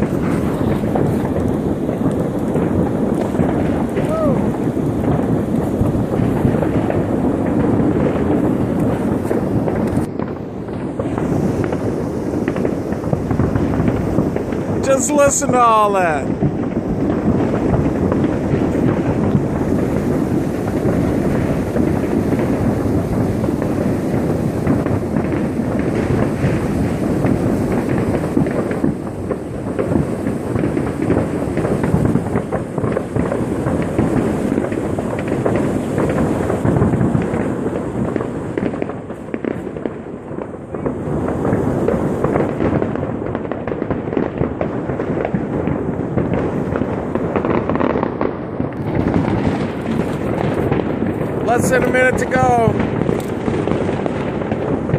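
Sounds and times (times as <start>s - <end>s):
fireworks crackling and banging: 0.0s - 54.9s.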